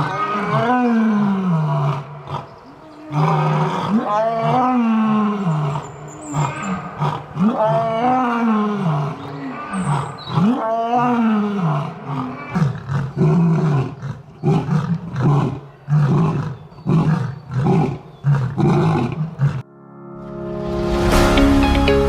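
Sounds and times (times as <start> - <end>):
lion grunts: 0.0 - 19.6
lion roaring: 0.0 - 19.6.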